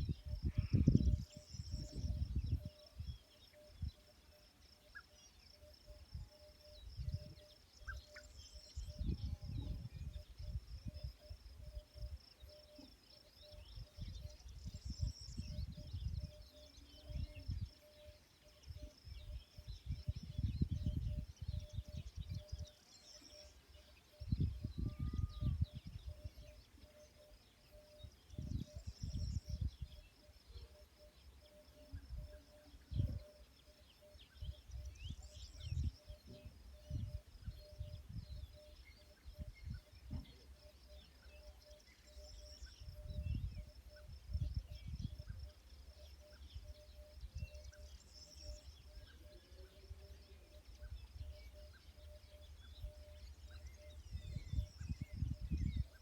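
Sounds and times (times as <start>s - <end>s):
wind rumbling on microphone: 0.0s - 4.0s, 5.8s - 12.4s, 13.4s - 22.8s, 24.1s - 26.8s, 28.0s - 30.4s, 31.8s - 33.5s, 34.3s - 40.6s, 42.1s - 45.6s, 46.4s - 56.0s
birds chirping: 0.0s - 56.0s.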